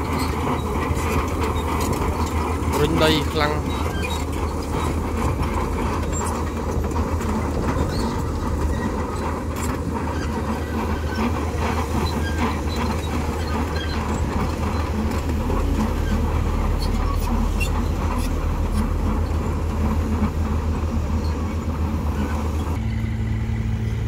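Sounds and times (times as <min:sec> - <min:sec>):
bulldozer diesel engine running: 0:00.0 - 0:24.0
steel tracks clanking: 0:00.0 - 0:24.0.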